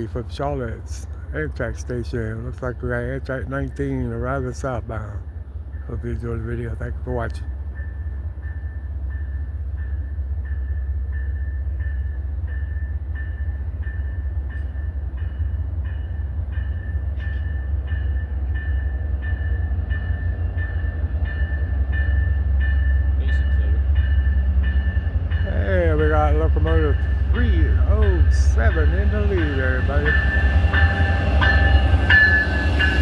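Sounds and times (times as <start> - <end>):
locomotive bell ringing: 0.0 - 33.0
low rumble of train: 0.0 - 33.0.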